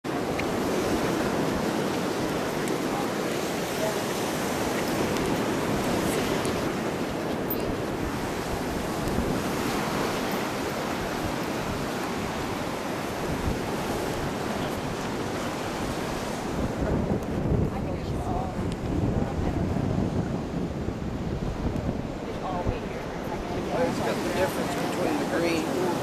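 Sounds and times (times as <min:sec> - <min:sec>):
surf washing onto beach: 0:00.0 - 0:26.0.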